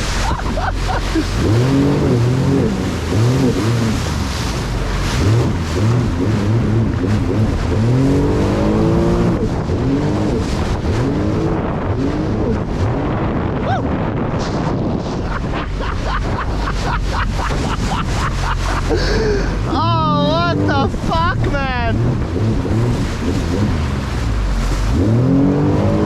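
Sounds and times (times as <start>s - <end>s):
jet ski engine revving: 0.0s - 26.0s
rushing wind: 0.0s - 26.0s
water noise: 0.0s - 26.0s.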